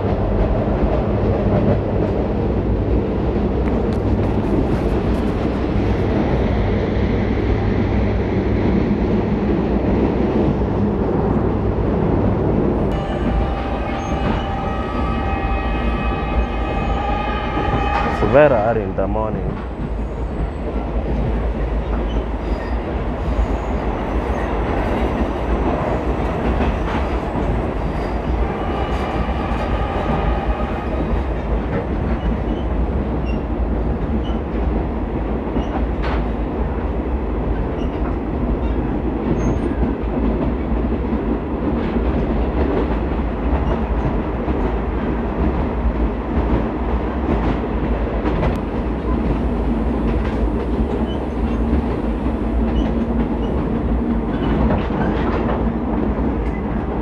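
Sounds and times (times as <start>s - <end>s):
train carriage rattling: 0.0s - 57.0s
train wheels rumbling on rails: 0.0s - 57.0s.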